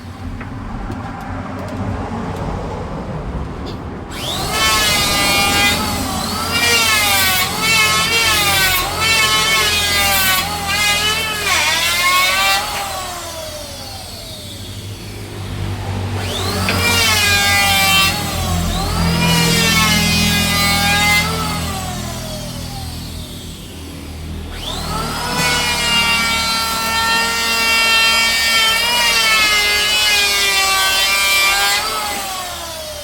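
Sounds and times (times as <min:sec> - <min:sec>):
power tool cutting wood: 0:04.1 - 0:33.0.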